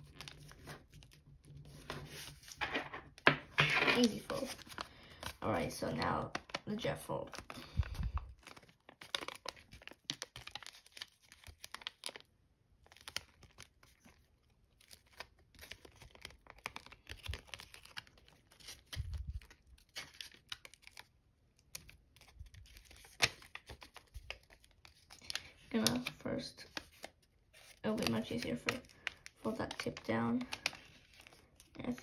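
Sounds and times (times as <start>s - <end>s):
foil paper crinkling: 0.0s - 2.7s, 4.0s - 32.0s.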